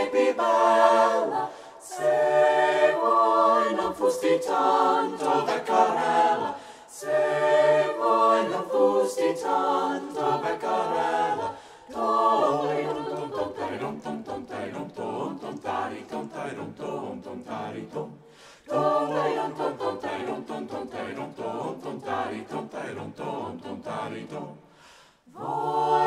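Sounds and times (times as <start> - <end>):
a cappella ensemble singing: 0.0 - 26.0.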